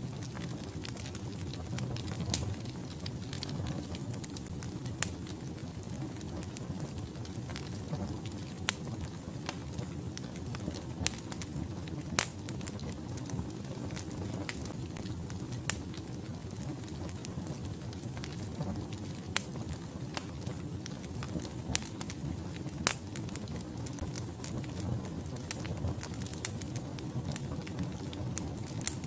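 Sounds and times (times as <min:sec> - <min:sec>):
fire flames rushing: 0:00.0 - 0:29.0
logs crackling and popping: 0:00.0 - 0:29.0.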